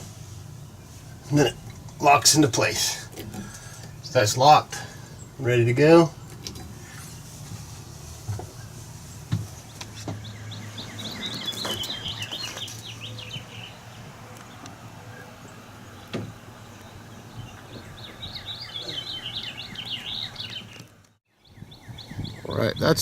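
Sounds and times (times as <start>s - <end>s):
steady low hum: 0.0s - 22.9s
songbird chirping: 0.0s - 23.0s.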